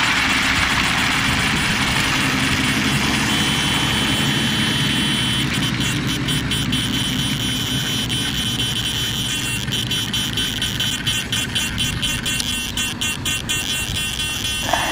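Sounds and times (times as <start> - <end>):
motor humming: 0.0 - 14.9.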